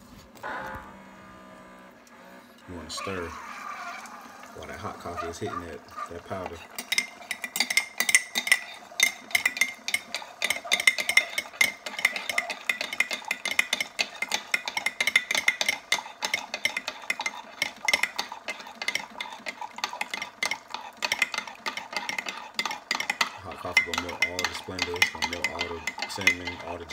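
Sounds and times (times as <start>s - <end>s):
coffee pouring into mug: 2.6s - 26.9s
metal spoon stirring in ceramic mug: 4.6s - 26.9s.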